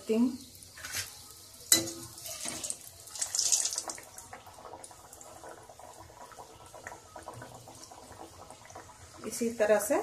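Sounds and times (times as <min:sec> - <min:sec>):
pastries deep-frying in oil: 0:00.0 - 0:10.0.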